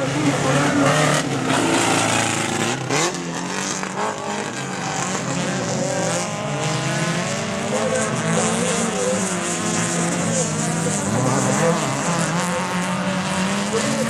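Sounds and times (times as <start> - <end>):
race car engines accelerating: 0.0 - 14.0.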